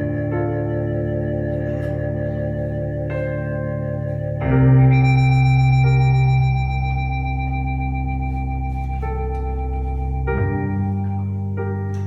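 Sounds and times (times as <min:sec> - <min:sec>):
organ-like keyboard chords: 0:00.0 - 0:12.0.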